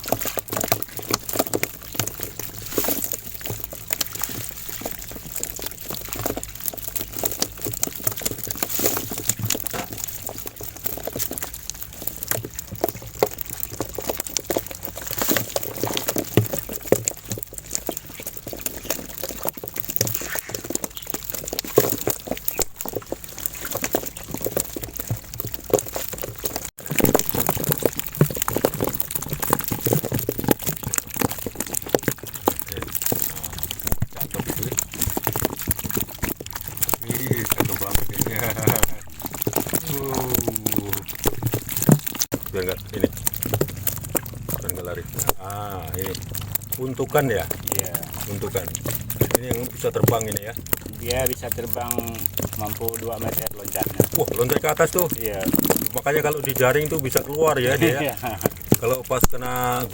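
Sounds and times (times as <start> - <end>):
water splashing and dripping: 0.0 - 59.9.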